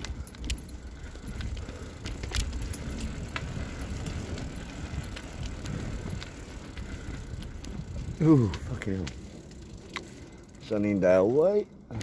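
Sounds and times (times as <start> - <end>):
light clicks and rattles: 0.0 - 12.0
tyres rolling on rough pavement: 0.0 - 12.0.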